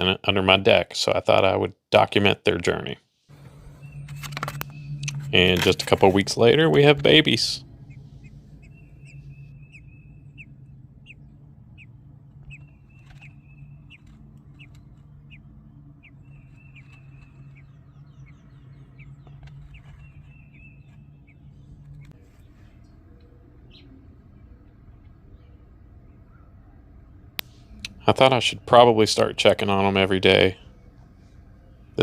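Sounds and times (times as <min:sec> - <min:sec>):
low steady hum: 0:00.0 - 0:32.0
songbirds chirping: 0:00.0 - 0:32.0
high bird trills: 0:03.3 - 0:32.0.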